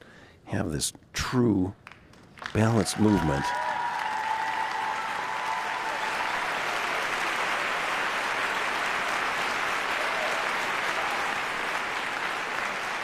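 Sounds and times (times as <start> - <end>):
crowd applauding: 1.8 - 13.0.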